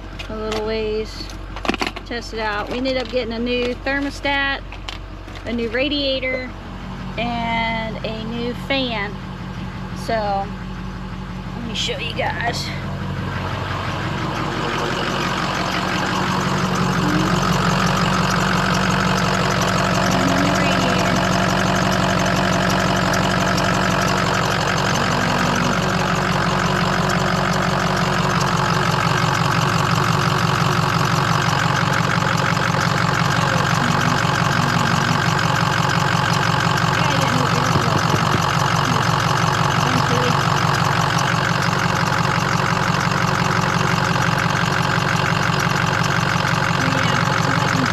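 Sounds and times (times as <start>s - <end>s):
truck engine idling: 0.0s - 47.9s.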